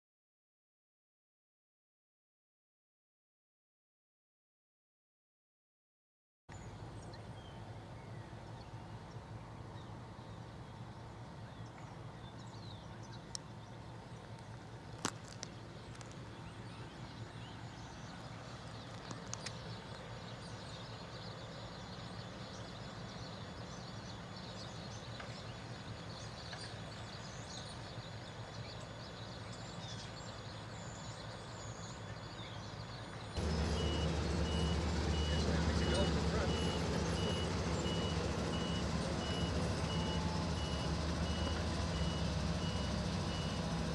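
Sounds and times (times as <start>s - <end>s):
low engine hum: 6.5s - 43.9s
small birds chirping: 6.5s - 43.9s.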